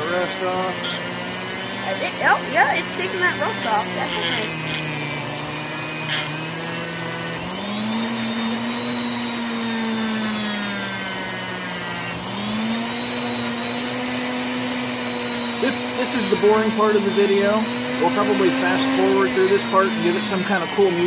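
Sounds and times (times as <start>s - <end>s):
rotary tool whining: 0.0s - 21.0s.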